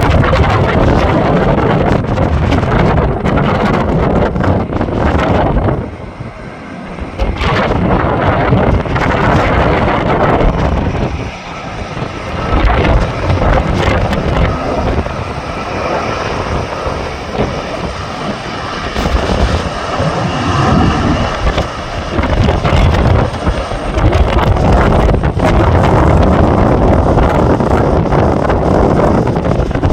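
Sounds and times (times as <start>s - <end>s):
jet engines running: 0.0s - 29.9s
wind buffeting microphone: 0.0s - 29.9s.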